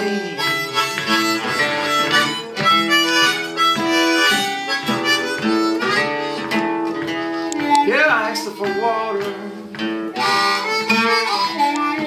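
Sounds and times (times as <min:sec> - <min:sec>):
blues harmonica: 0:00.0 - 0:12.0
strummed acoustic guitar: 0:00.0 - 0:12.0.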